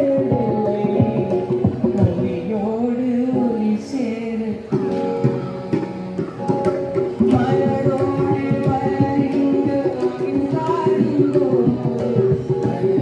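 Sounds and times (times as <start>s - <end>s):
steady drum rhythm: 0.0s - 2.6s, 4.6s - 13.0s
person singing: 0.0s - 13.0s.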